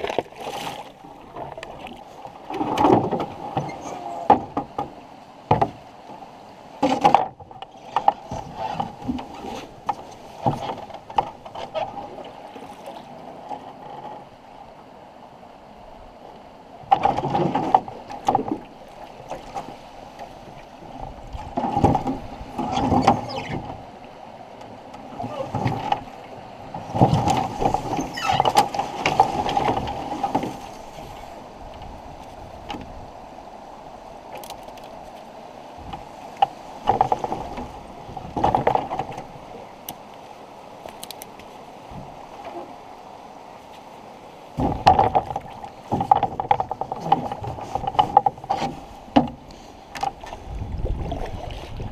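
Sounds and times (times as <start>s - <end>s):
canoe hull scraping and knocking: 0.0s - 5.8s, 6.8s - 14.4s, 16.8s - 23.8s, 24.9s - 26.1s, 26.7s - 33.2s, 34.3s - 39.5s, 43.6s - 51.9s.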